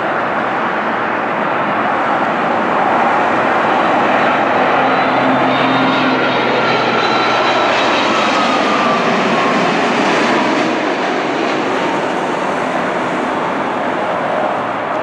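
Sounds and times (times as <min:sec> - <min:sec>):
faint jet whine falling in pitch: 0:00.0 - 0:15.0
jet engine roar: 0:00.0 - 0:15.0.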